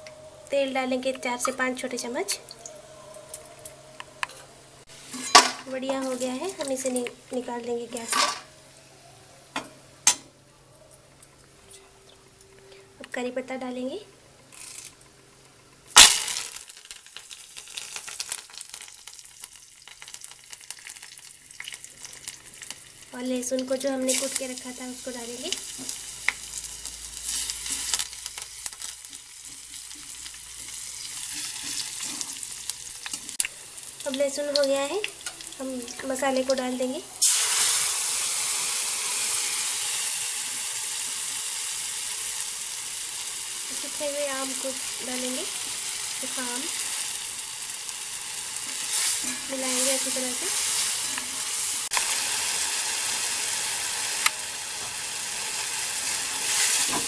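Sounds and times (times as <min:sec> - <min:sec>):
leaves sizzling in hot oil: 0:00.0 - 0:08.8, 0:13.0 - 0:57.0.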